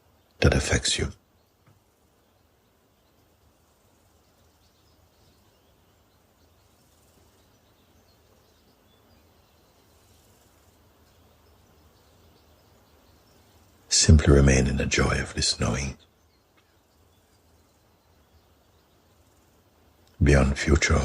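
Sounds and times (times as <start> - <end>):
faint background hiss: 0.0 - 21.0.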